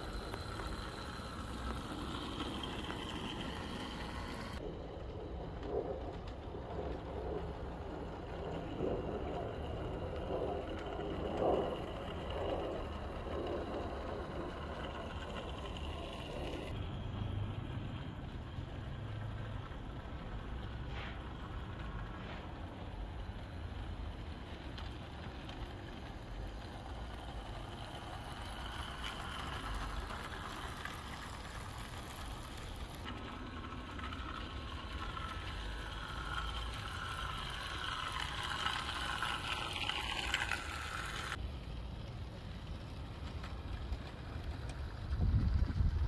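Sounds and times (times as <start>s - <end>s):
model locomotive running on track: 0.0s - 46.0s.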